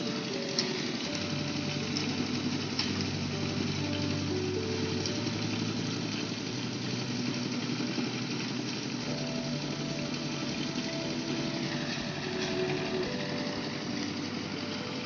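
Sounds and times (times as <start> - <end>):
background music of held notes: 0.0 - 15.0
diesel engine running: 0.0 - 15.0.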